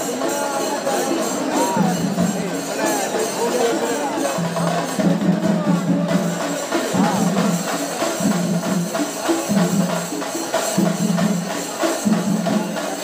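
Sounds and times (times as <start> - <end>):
jingling tambourine: 0.0 - 13.0
percussion beat: 0.0 - 13.0.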